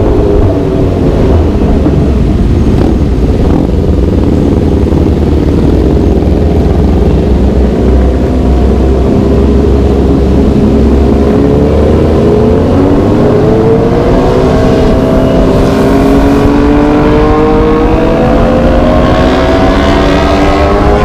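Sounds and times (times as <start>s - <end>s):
motorcycle engine accelerating: 0.0s - 21.0s
wind rumble on microphone: 0.0s - 21.0s.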